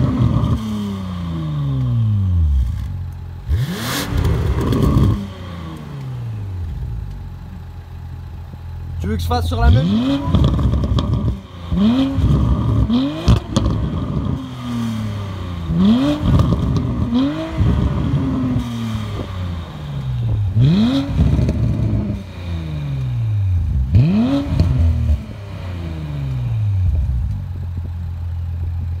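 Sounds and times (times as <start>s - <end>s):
car engine revving: 0.0s - 7.6s, 9.1s - 28.6s
car engine idling: 0.0s - 29.0s
exhaust crackles: 0.0s - 29.0s.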